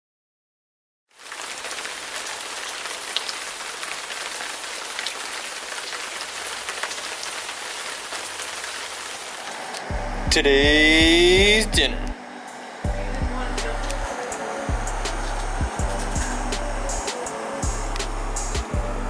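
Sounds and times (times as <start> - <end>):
steady rain: 1.1 - 19.0
raindrops ticking sharply: 1.2 - 19.0.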